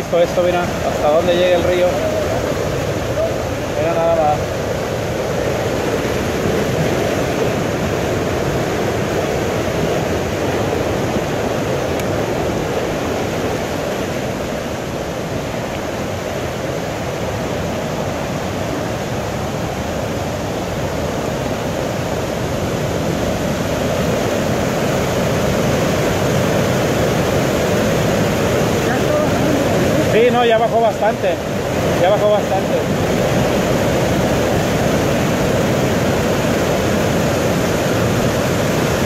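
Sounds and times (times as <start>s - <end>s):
floodwater rushing: 0.0s - 39.0s.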